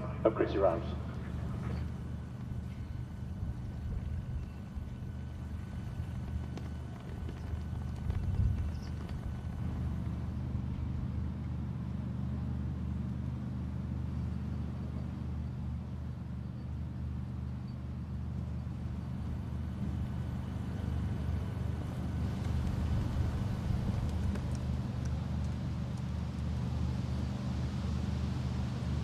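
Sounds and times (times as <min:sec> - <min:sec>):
outdoor background noise: 0:00.0 - 0:29.0
steady low hum: 0:00.0 - 0:29.0.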